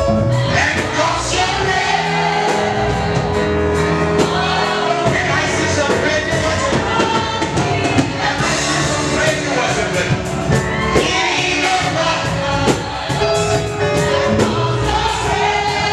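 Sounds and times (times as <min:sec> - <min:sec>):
gospel singing with band: 0:00.0 - 0:15.9
steady drum beat: 0:00.4 - 0:15.9.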